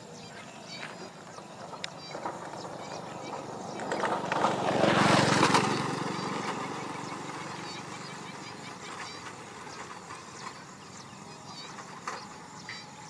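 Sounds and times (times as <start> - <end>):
vehicle engine passing by: 1.1 - 11.6.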